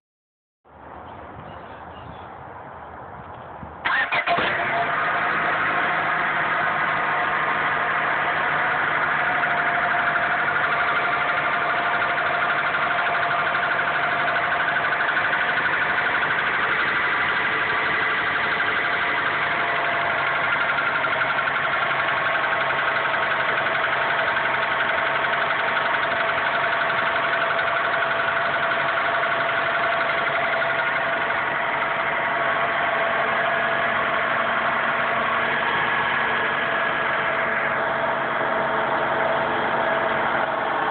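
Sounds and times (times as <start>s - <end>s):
car engine idling: 2.8s - 40.9s
rapid engine knocking: 3.9s - 40.9s.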